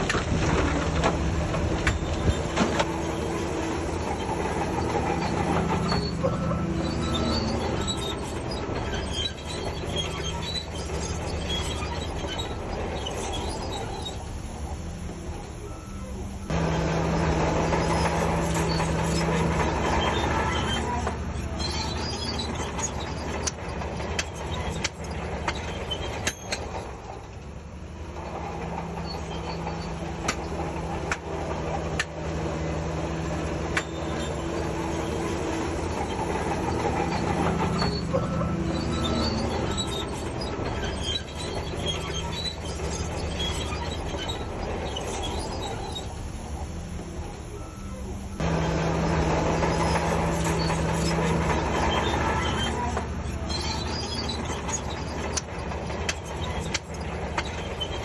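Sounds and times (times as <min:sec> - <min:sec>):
bulldozer diesel engine: 0:00.0 - 0:58.0
tracks clanking and squeaking: 0:00.0 - 0:58.0.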